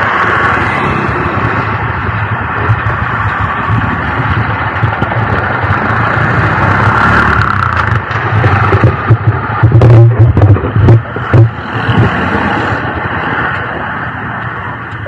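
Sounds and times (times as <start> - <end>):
busy road traffic: 0.0 - 15.0.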